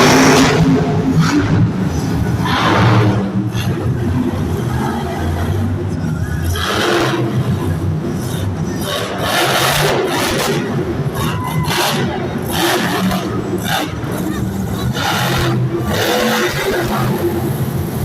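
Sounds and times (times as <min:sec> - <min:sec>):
crowd noise: 0:00.0 - 0:18.0
truck engine revving: 0:00.0 - 0:18.0.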